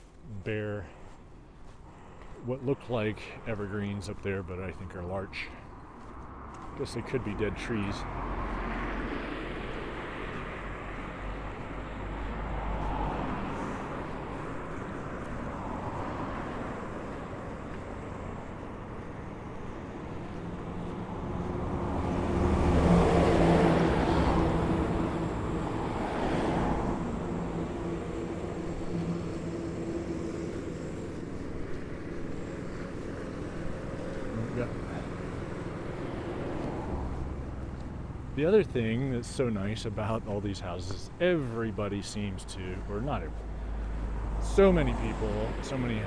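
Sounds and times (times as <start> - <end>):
cars passing: 0.0 - 46.0
engine hum: 0.0 - 46.0.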